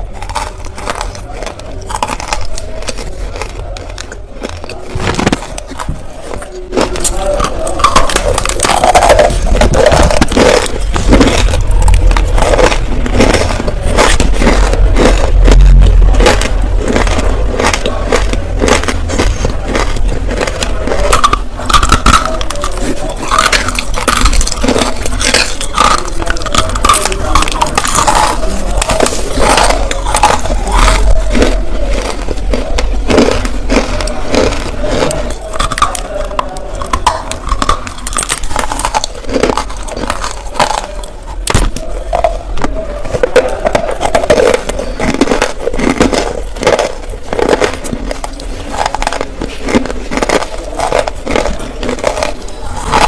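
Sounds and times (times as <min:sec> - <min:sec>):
crunching and chewing clay: 0:00.0 - 0:53.0.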